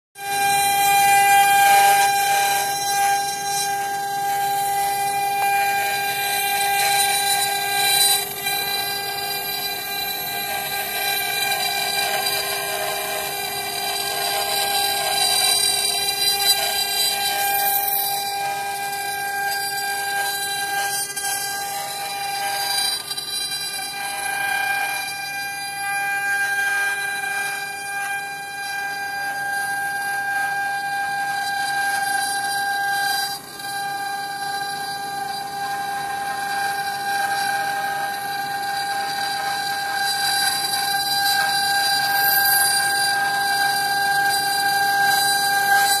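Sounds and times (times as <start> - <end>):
wood router spindle whine: 0.2 - 46.0.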